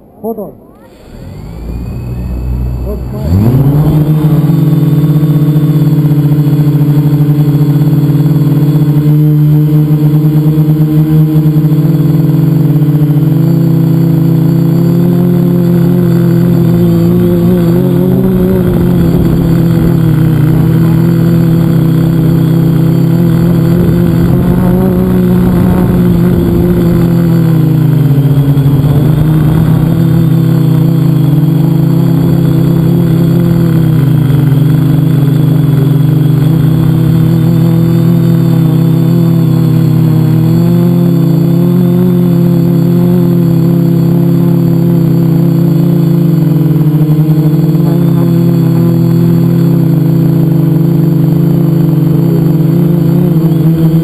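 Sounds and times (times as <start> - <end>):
drone motors buzzing: 0.6 - 54.0.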